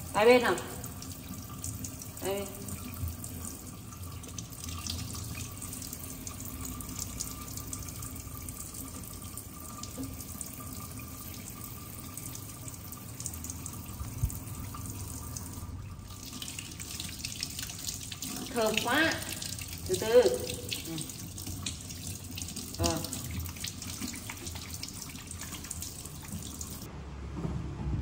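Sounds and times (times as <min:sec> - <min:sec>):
faucet running into sink: 0:00.0 - 0:26.9.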